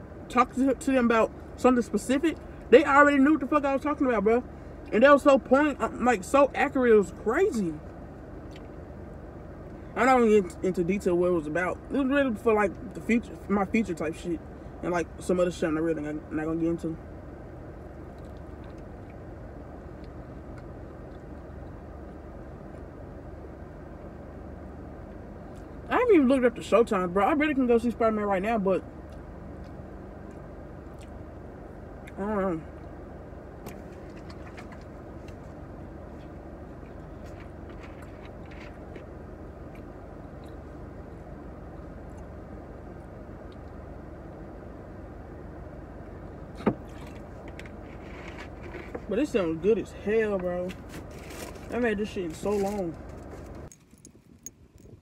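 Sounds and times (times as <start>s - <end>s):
car cabin rumble and hiss: 0.0s - 55.0s.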